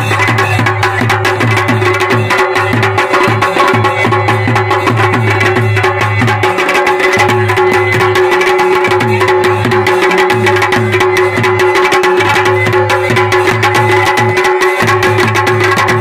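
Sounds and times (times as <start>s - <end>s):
drums beating rapid rhythm: 0.0s - 16.0s.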